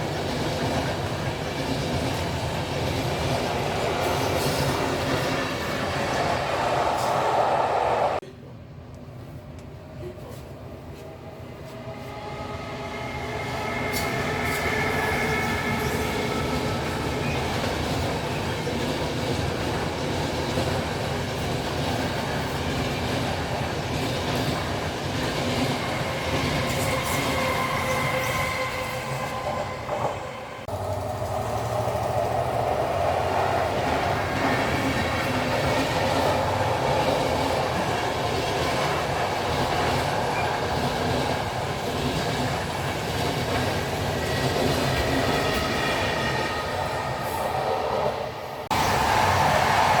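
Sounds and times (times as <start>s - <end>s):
train rolling on tracks: 0.0s - 50.0s.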